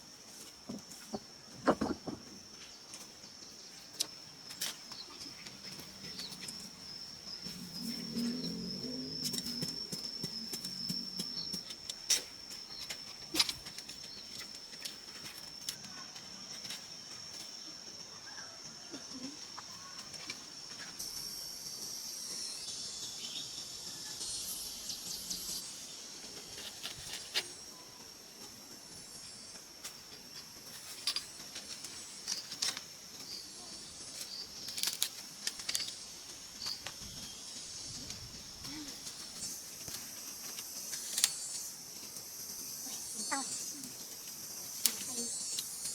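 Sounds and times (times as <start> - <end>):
high-pitched insect drone: 3.3 - 45.9.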